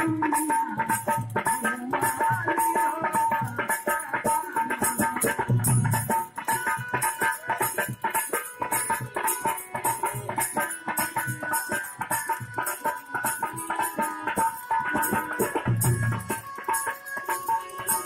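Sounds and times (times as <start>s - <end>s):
hand drums: 0.0s - 18.0s.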